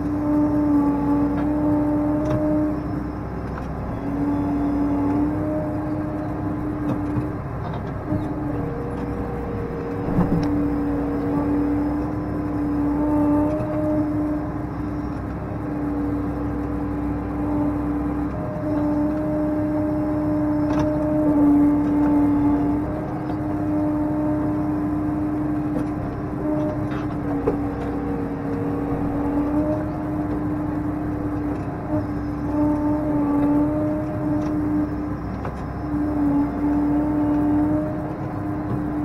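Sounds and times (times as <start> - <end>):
steady whine: 0.0 - 39.0
tractor engine under load: 0.0 - 39.0.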